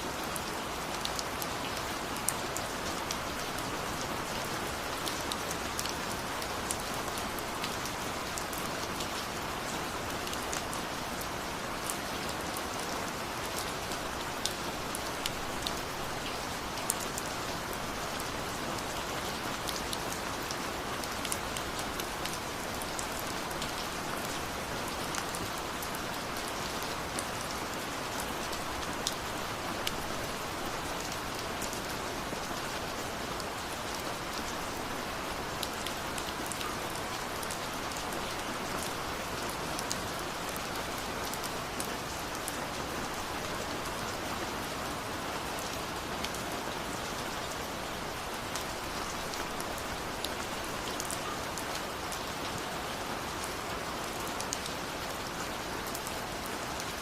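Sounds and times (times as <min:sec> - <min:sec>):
steady rain hiss: 0:00.0 - 0:57.0
raindrops ticking on surfaces: 0:00.1 - 0:57.0.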